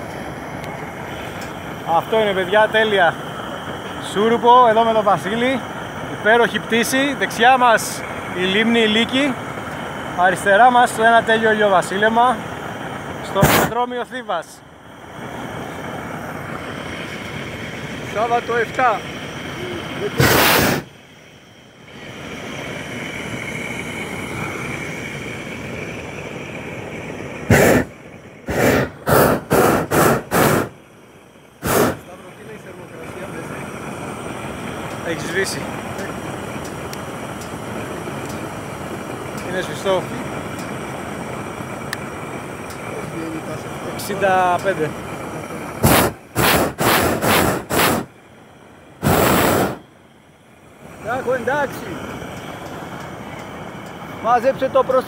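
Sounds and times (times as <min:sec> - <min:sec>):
propane burner blasts: 0:00.0 - 0:55.0
steady rushing noise: 0:00.0 - 0:55.0.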